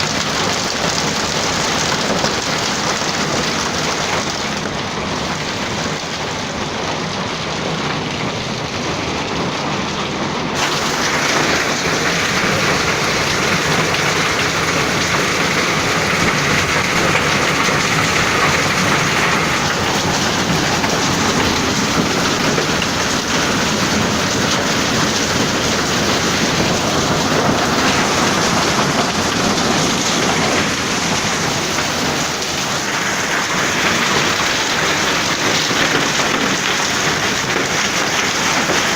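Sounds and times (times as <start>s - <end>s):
hail and heavy rain pelting: 0.0s - 38.9s.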